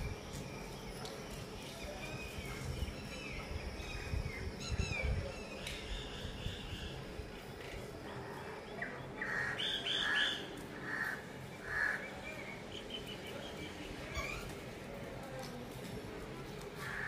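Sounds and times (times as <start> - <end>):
birds chirping: 0.0 - 15.2
faint outdoor background noise: 0.0 - 17.0.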